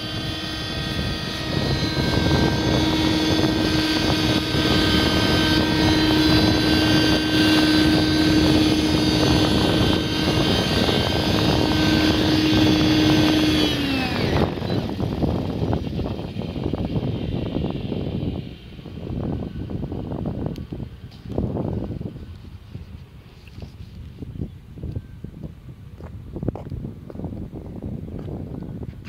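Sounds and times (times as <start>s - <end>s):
model helicopter engine and rotors: 0.0s - 29.0s.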